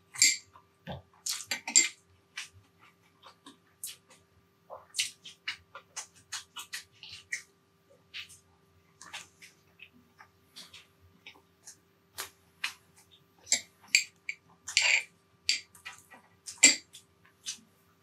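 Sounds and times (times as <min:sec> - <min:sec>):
person chewing with wet smacks: 0:00.0 - 0:17.8.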